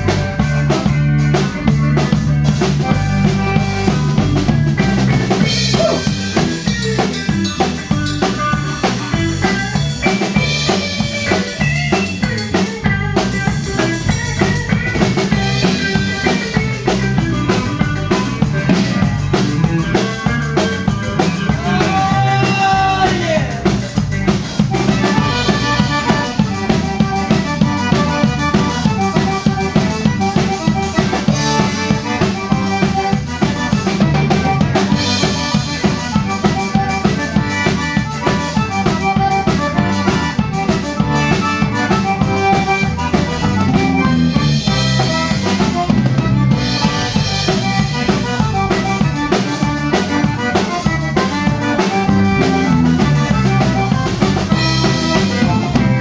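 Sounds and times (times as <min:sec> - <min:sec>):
button accordion: 0:00.0 - 0:56.0
drum kit steady beat: 0:00.0 - 0:56.0
electric guitar: 0:00.0 - 0:56.0.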